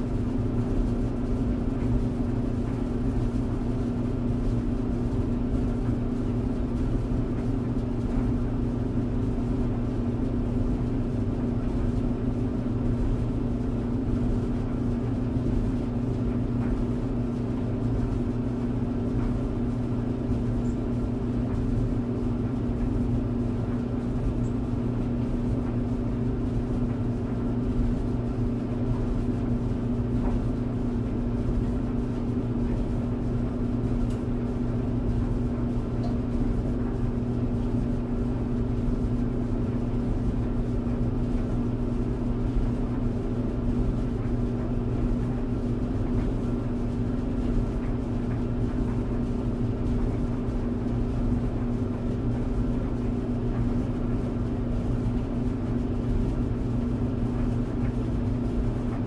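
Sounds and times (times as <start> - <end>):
clothes dryer rumbling: 0.0 - 59.0.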